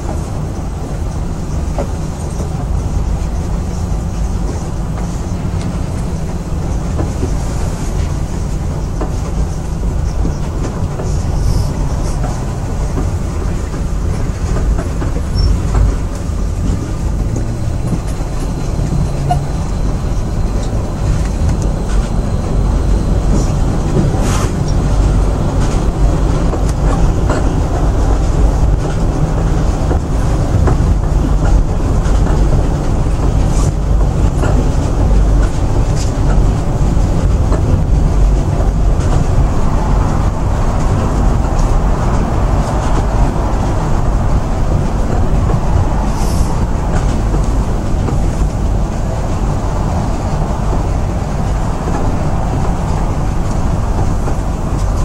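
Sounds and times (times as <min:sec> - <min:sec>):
monorail train rumble: 0:00.0 - 0:55.0.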